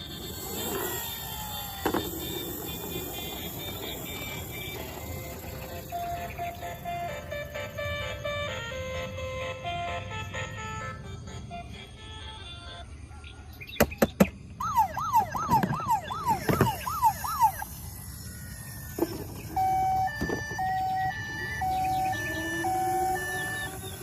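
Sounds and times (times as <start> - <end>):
toy siren wailing: 0.0 - 13.6, 14.6 - 24.0.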